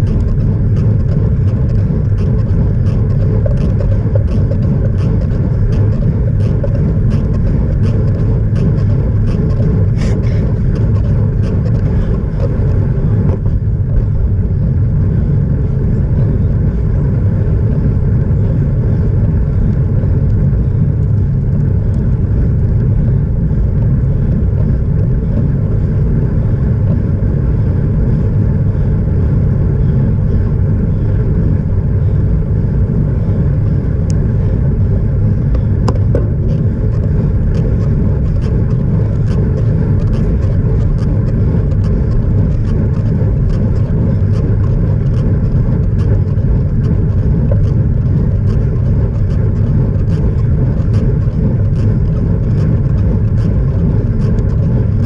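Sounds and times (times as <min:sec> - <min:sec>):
tyre noise on asphalt: 0:00.0 - 0:29.8, 0:30.4 - 0:55.0
wind buffeting microphone: 0:00.0 - 0:55.0.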